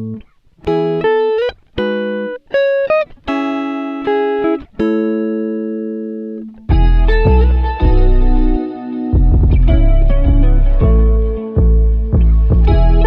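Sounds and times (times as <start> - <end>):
plucked guitar: 0.0 - 13.0.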